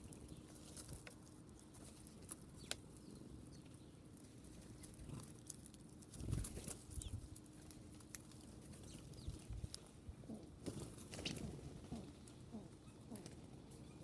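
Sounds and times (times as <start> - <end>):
faint ticks and scratches: 0.0 - 14.0.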